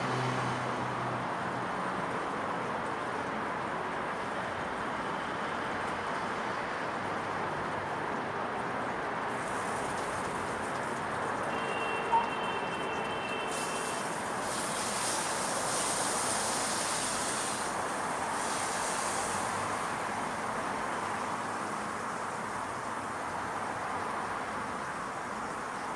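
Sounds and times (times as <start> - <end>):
distant traffic hum: 0.0 - 25.9.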